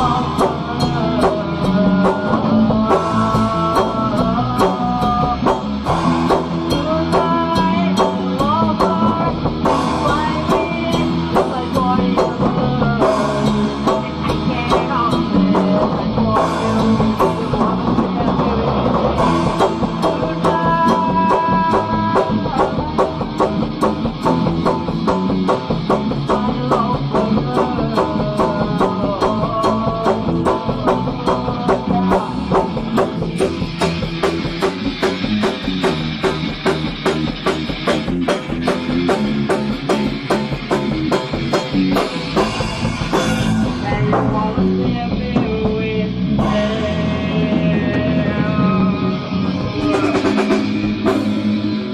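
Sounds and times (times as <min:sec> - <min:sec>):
bass guitar: 0:00.0 - 0:51.9
drum kit: 0:00.0 - 0:51.9
electric guitar: 0:00.0 - 0:51.9.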